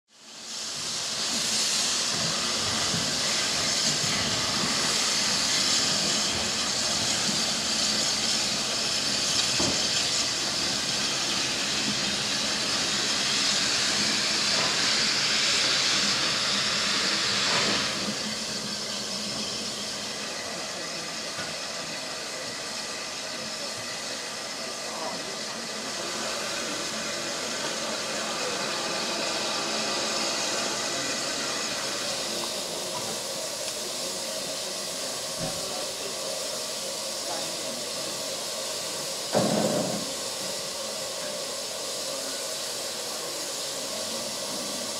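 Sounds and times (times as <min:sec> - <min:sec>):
hiss of escaping steam: 0:00.1 - 0:44.9.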